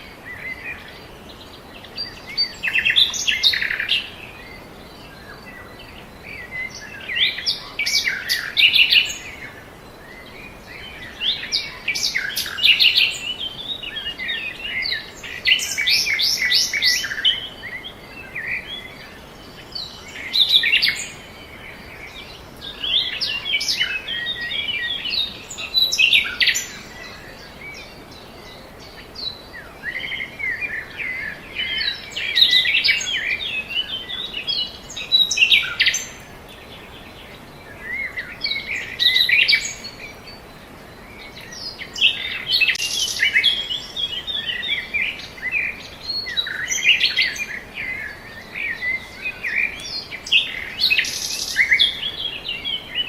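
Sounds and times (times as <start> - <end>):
birds chirping and trilling: 0.0 - 53.0
faint steady hiss: 0.0 - 53.0.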